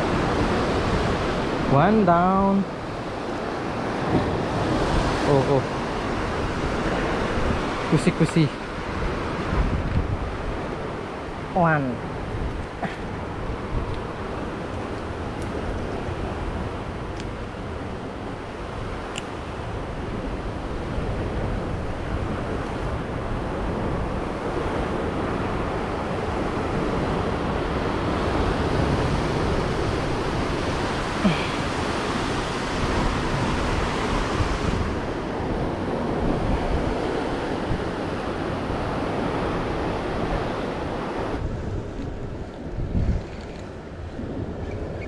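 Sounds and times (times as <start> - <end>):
sea surf: 0.0 - 45.0
wind buffeting microphone: 2.7 - 45.0.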